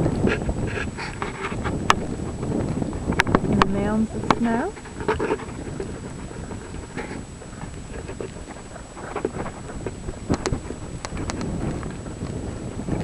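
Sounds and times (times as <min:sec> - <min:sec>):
blizzard wind rumbling on microphone: 0:00.0 - 0:13.0.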